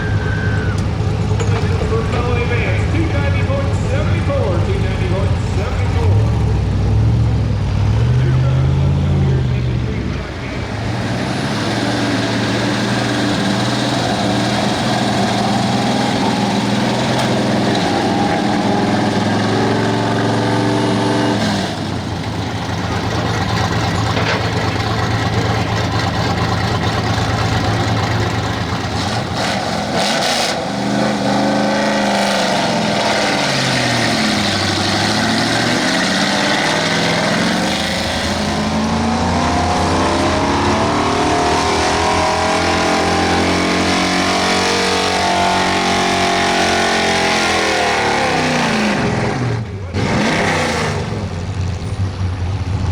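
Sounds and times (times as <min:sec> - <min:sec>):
truck engine revving under load: 0:00.0 - 0:52.9.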